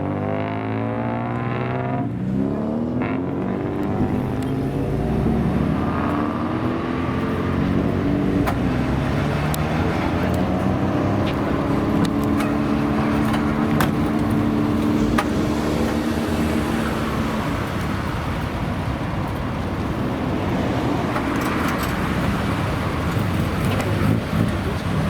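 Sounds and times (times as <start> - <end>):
traffic rumble: 0.0 - 25.0
car engine running: 3.4 - 25.0.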